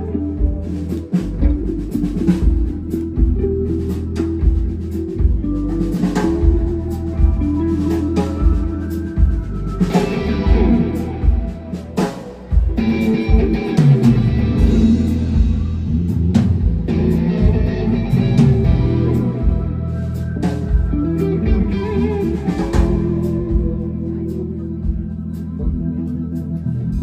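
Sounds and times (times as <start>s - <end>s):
electric guitar: 0.0s - 27.0s
live rock band playing: 0.0s - 27.0s.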